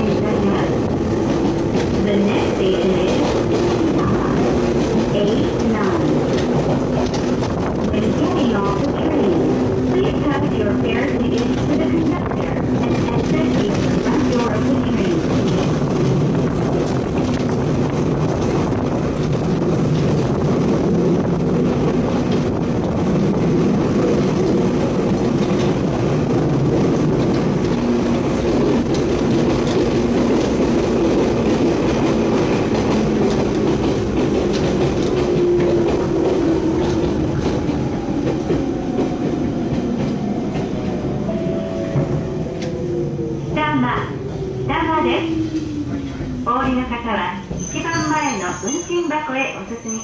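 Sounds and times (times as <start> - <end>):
train wheels rumbling on rail: 0.0 - 50.0
rail-joint clicks: 0.1 - 21.6, 22.2 - 42.9.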